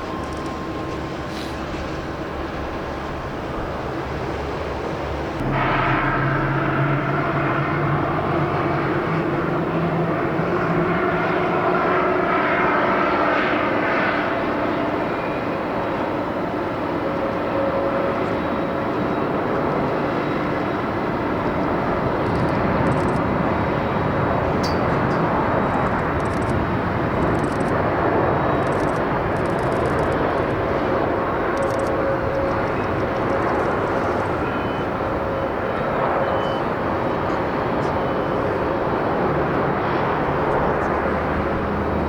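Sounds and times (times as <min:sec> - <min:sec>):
jet airliner engine roar: 0:00.0 - 0:42.0.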